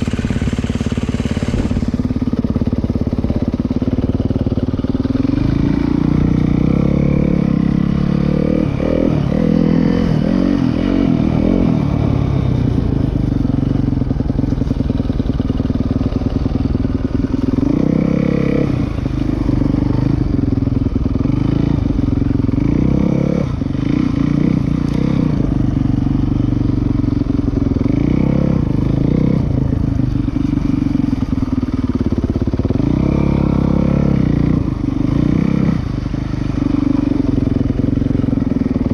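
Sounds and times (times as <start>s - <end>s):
dirt bike engine revving: 0.0s - 13.8s, 16.4s - 38.9s.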